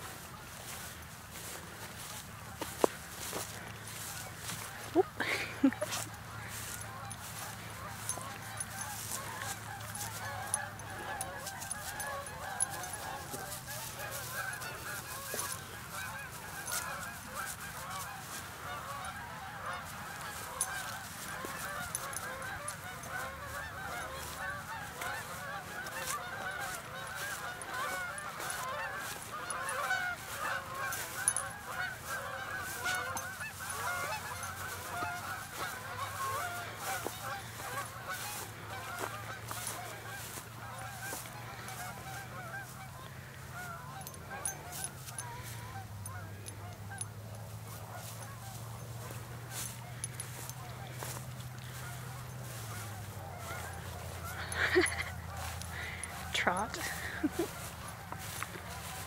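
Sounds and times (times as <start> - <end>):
flock of birds calling: 0.0 - 59.0.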